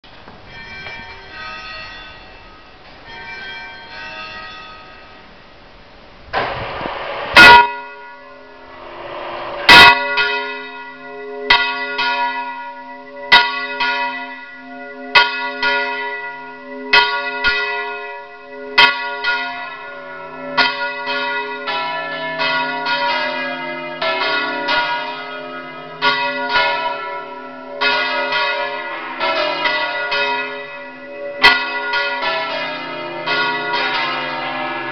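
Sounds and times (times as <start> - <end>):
church bells ringing: 0.4 - 5.6, 6.4 - 34.9.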